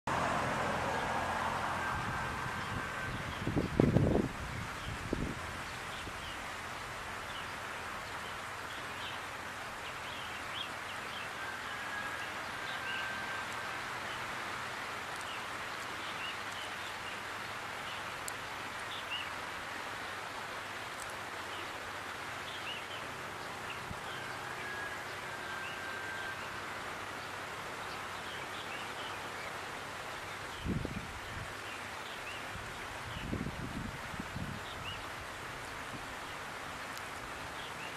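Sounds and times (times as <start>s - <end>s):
wind and rustling: 0.1s - 37.9s.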